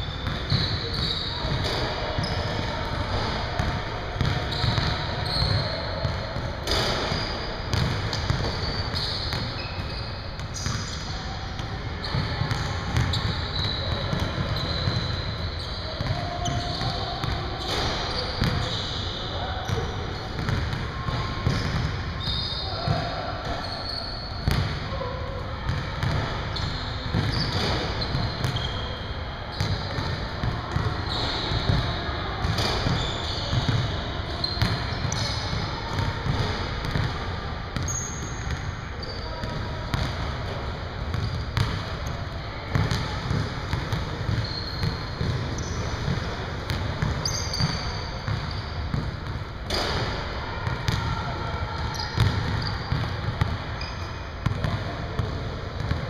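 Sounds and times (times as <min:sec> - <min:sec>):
indistinct talk echoing: 0:00.0 - 0:56.0
sneaker squeaks: 0:00.0 - 0:56.0.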